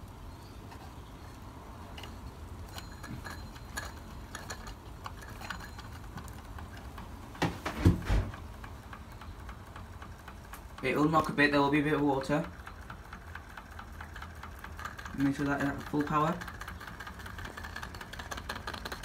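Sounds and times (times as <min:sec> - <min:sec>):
toy steam engine clicking: 0:00.7 - 0:07.4, 0:08.3 - 0:19.0.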